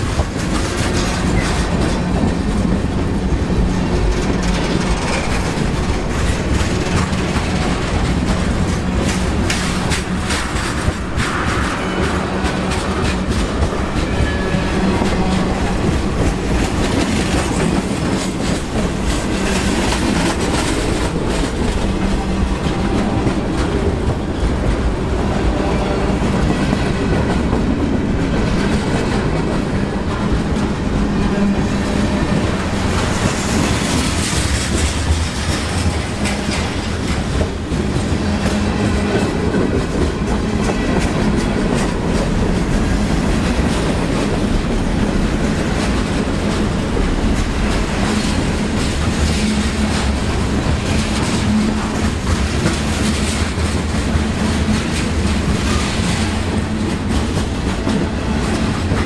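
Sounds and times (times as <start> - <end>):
freight train wheels clacking on rails: 0.0 - 59.0.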